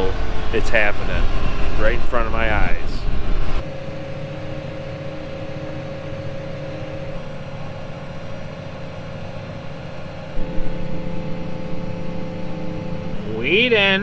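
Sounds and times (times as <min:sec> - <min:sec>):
mid-pitched whine: 0:00.0 - 0:14.0
tractor engine hum: 0:00.0 - 0:14.0.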